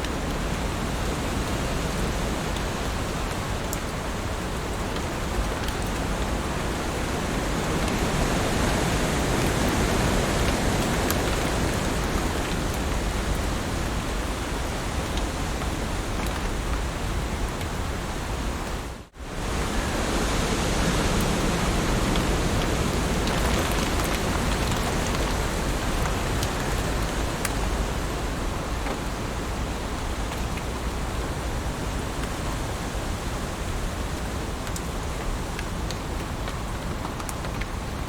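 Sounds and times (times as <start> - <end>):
heavy rain: 0.0 - 38.0.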